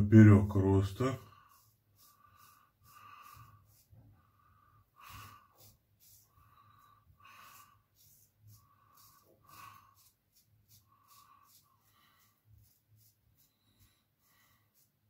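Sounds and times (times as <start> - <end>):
breathing through nose: 1.2 - 15.0.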